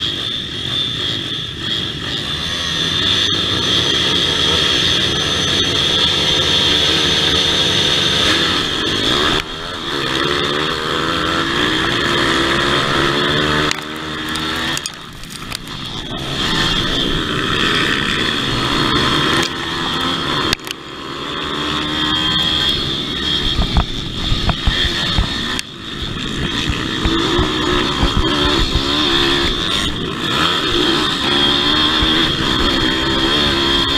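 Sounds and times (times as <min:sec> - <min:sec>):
pit bike engines revving: 0:00.0 - 0:33.9.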